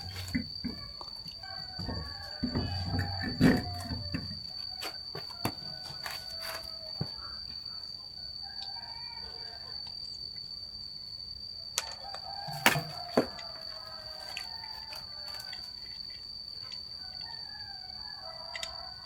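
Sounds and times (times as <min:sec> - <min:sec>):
distant rooster crowing: 0:00.0 - 0:10.0, 0:11.5 - 0:19.0
steady high-pitched whine: 0:00.0 - 0:19.0.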